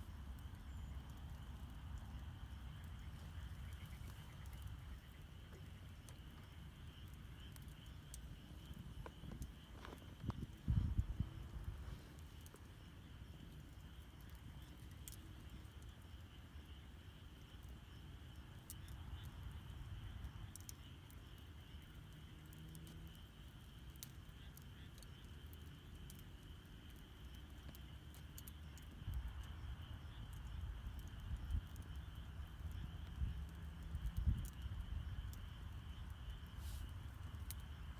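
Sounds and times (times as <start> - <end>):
campfire crackling and popping: 0.0 - 37.9
low rumble of burning fire: 0.0 - 37.9
night insects trilling: 0.0 - 37.9.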